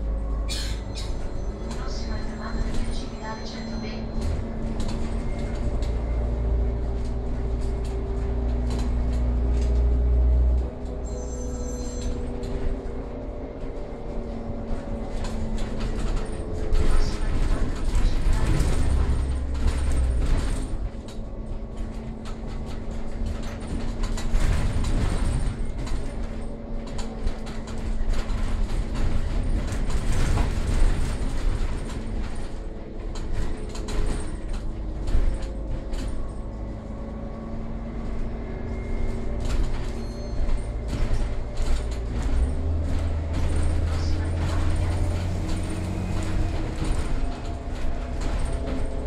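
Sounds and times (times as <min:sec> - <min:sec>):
bus engine running: 0:00.0 - 0:49.0
low road rumble: 0:00.0 - 0:49.0
rattles and clicks: 0:00.9 - 0:49.0.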